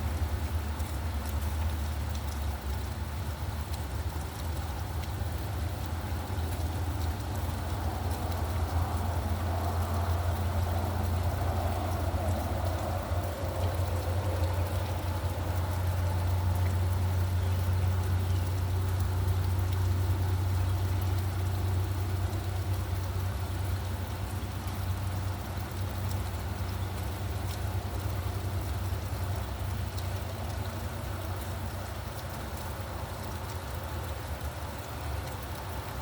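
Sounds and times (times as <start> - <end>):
low traffic rumble: 0.0 - 36.0
raindrop ticks: 0.0 - 36.0
steady rain: 0.0 - 36.0.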